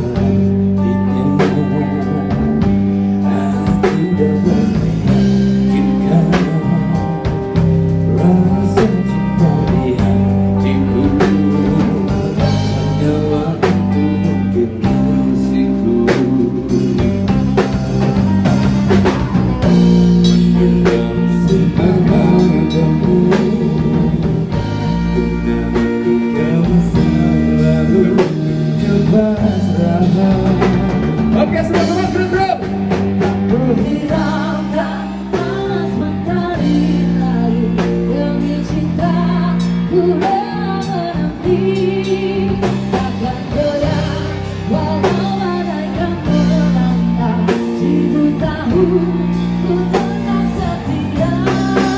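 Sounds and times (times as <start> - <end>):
drum kit: 0.0 - 51.9
electric guitars: 0.0 - 51.9
male and female singers: 0.0 - 51.9.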